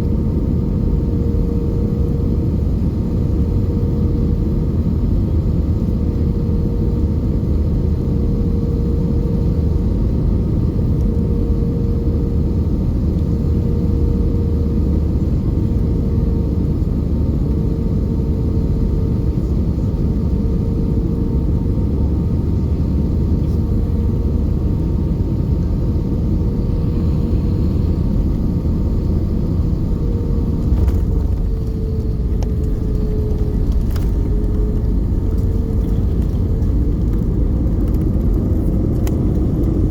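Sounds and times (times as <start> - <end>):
airliner cabin rumble: 0.0 - 39.9
constant whine: 0.0 - 39.9.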